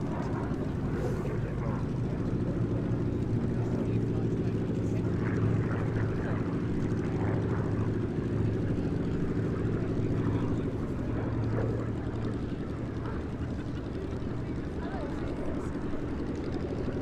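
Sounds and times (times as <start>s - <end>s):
propeller plane engine drone overhead: 0.0s - 17.0s.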